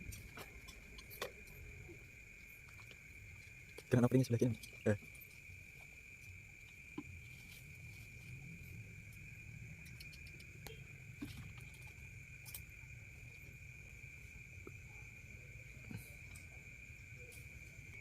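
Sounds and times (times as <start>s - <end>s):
night insects chorus: 0.0s - 18.0s.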